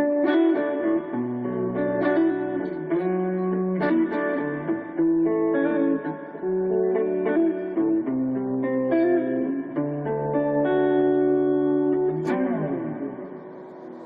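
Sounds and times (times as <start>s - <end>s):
electric guitar chords ringing: 0.0s - 14.0s.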